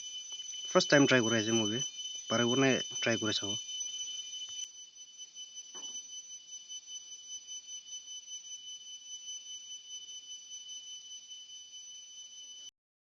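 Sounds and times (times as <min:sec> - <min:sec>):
high-pitched insect shrill: 0:00.0 - 0:12.7.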